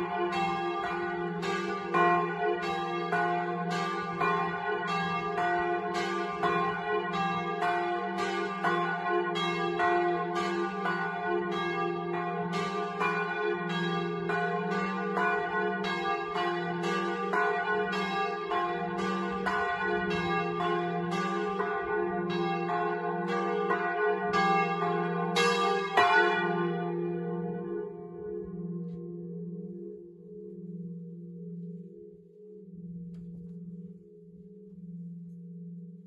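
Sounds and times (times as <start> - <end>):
church bells ringing alternately: 0.0 - 36.0.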